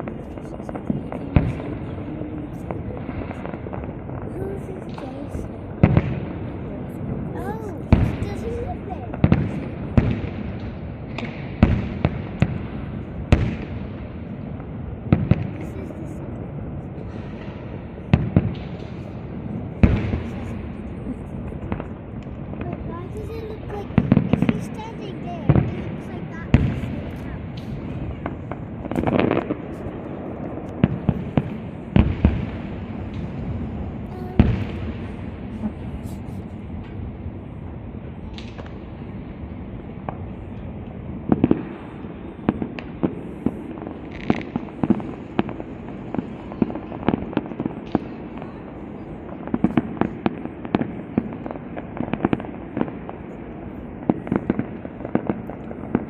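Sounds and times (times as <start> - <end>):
crackling rumble of fireworks: 0.0 - 56.0
fireworks bangs: 0.0 - 56.0.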